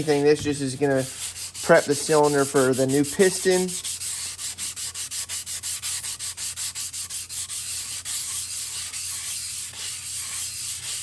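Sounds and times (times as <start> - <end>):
sandpaper scrubbing metal bore: 0.0 - 11.0.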